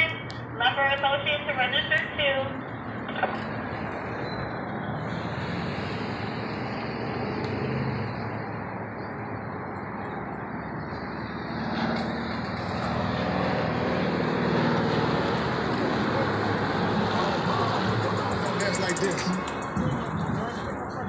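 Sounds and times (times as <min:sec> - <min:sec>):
passing cars rushing: 0:02.4 - 0:21.0.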